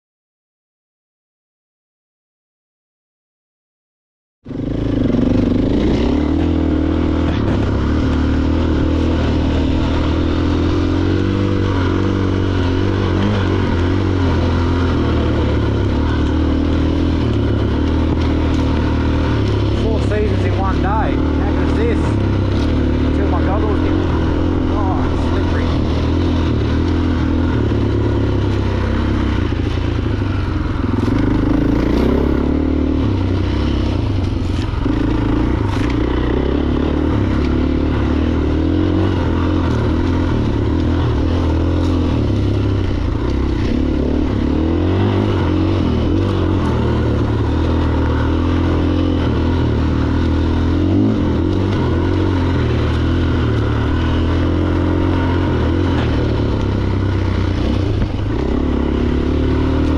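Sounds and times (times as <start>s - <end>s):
motorcycle engine under load: 4.4s - 59.9s.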